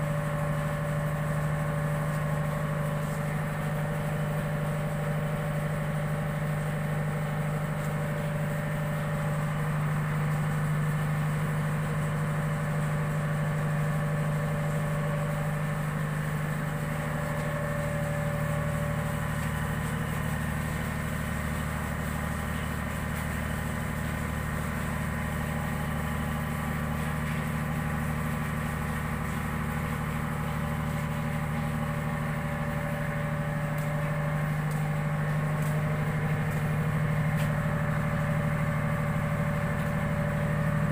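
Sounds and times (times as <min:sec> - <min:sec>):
ship diesel machinery drone: 0:00.0 - 0:40.9.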